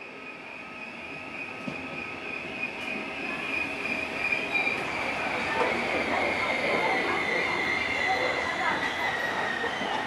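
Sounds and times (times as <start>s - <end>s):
train wheel squeal: 0.0s - 10.0s
train carriage rumble: 1.1s - 10.0s.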